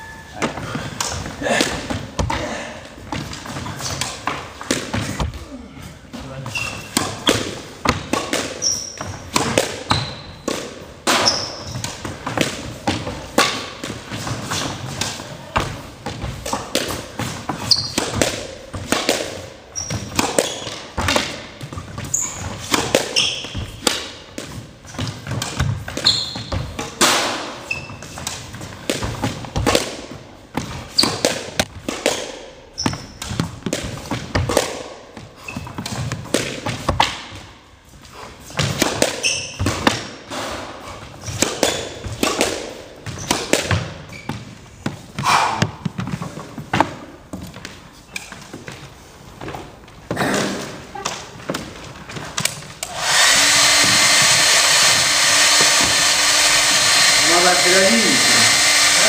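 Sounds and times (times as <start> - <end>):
shoes squeaking on court floor: 0.0 - 5.4, 6.0 - 31.6, 32.2 - 42.3, 43.0 - 52.8
squash ball hits echoing: 0.1 - 5.4, 6.6 - 37.6, 38.4 - 47.6, 50.1 - 59.0.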